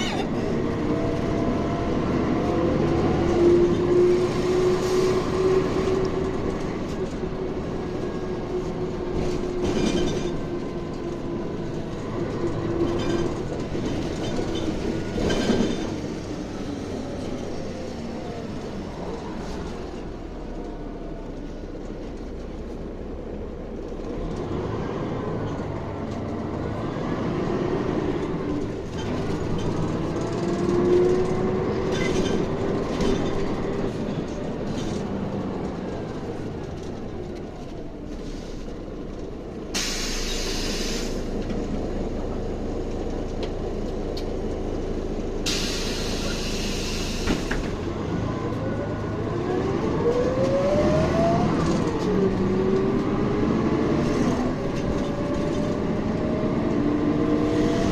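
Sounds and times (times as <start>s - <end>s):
bus engine rumble: 0.0s - 57.9s.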